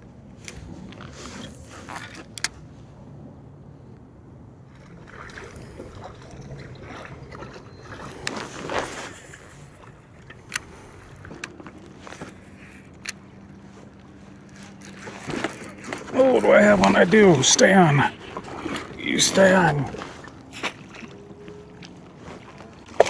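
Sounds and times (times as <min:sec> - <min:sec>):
water and kayak hull noise: 0:04.4 - 0:23.0.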